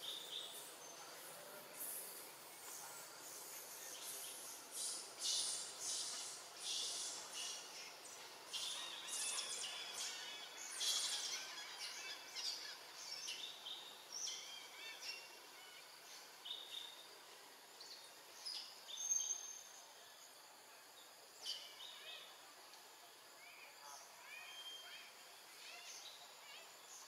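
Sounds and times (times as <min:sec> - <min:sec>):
forest birds chirping and whistling: 0:00.0 - 0:17.1, 0:17.7 - 0:20.2, 0:20.9 - 0:22.5, 0:23.4 - 0:27.0
faint forest ambience hiss: 0:00.0 - 0:27.0.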